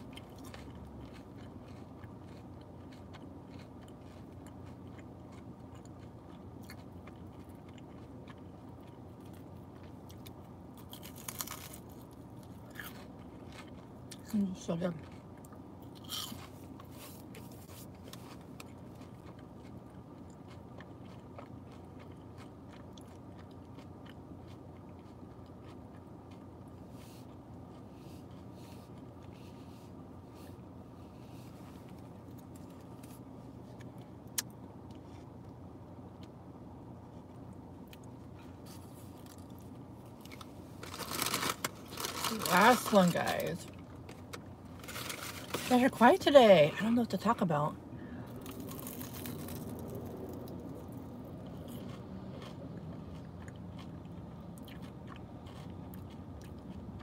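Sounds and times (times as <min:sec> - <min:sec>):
chewing and biting food: 0:00.0 - 0:45.7, 0:48.1 - 0:57.0.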